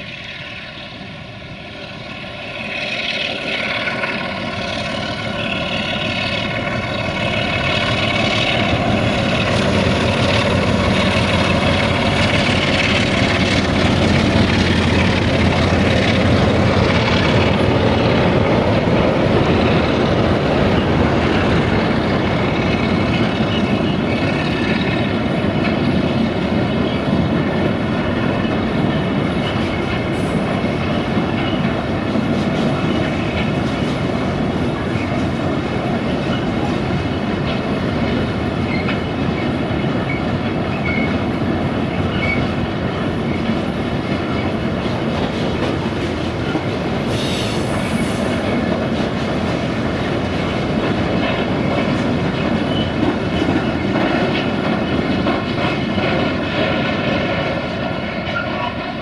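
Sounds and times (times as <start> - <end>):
diesel locomotive engine droning: 0.0 - 59.0
wagons rolling on track: 2.7 - 59.0.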